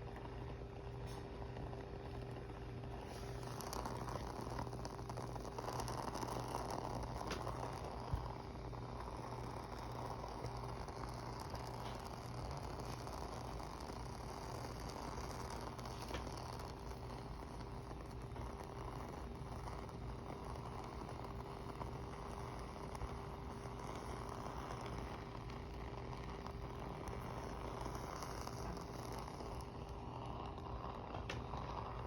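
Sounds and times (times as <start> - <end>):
candle crackling and popping: 0.0 - 32.0.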